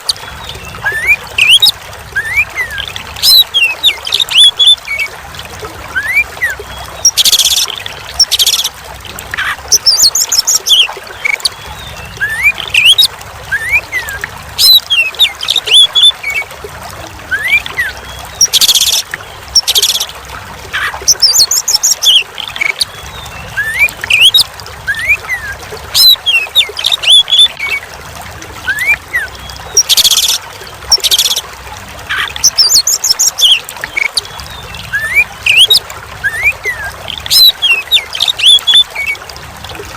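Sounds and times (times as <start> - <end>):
songbird whistles and trills: 0.0 - 5.1, 5.9 - 8.7, 9.4 - 27.8, 28.6 - 31.4, 32.1 - 39.2
running water trickling: 0.0 - 39.9.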